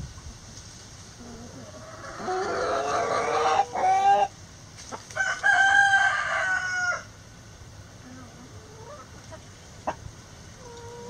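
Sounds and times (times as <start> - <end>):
chickens calling: 1.2 - 11.0.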